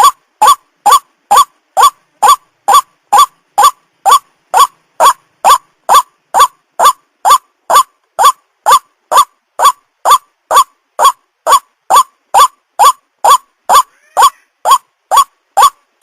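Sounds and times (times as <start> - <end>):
waterhen calling kwak notes: 0.0 - 15.8.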